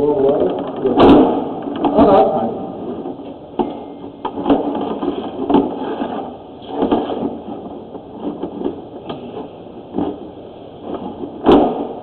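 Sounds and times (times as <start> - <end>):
steady noisy background: 0.0 - 12.0
equipment knocking and clunking: 0.4 - 10.2.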